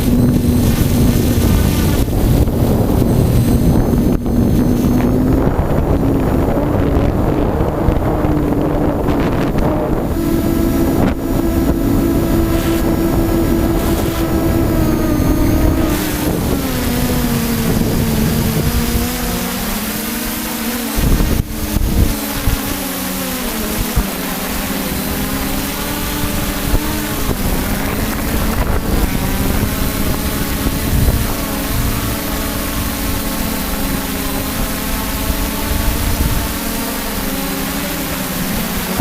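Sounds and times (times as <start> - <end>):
motor humming: 0.0 - 39.0
wind noise on microphone: 0.0 - 39.0.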